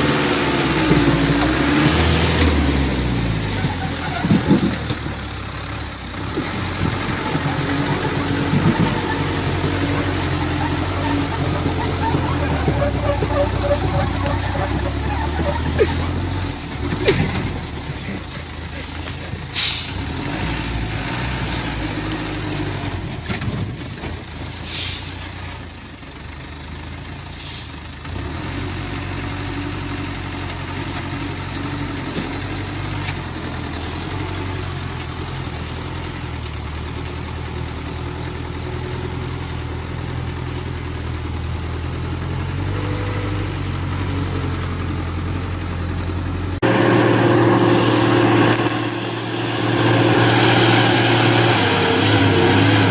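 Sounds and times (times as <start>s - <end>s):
loud engine running: 0.0s - 25.0s, 30.2s - 52.9s
heavy truck engine running: 0.0s - 52.9s.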